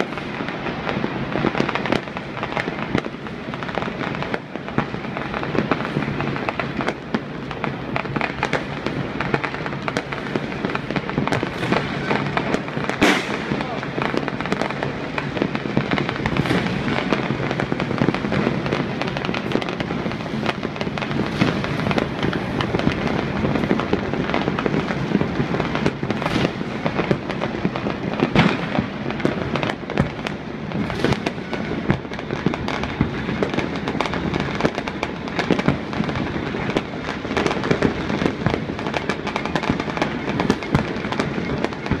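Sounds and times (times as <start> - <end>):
fireworks crackling and popping: 0.0 - 42.0
loud sharp firework reports: 0.0 - 42.0.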